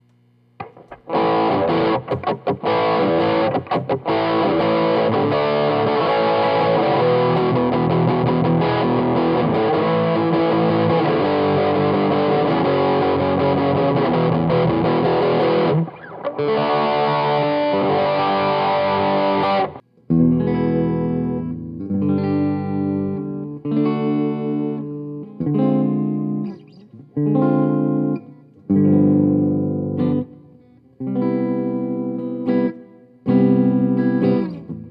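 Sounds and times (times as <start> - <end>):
distorted electric guitar: 0.6 - 34.9.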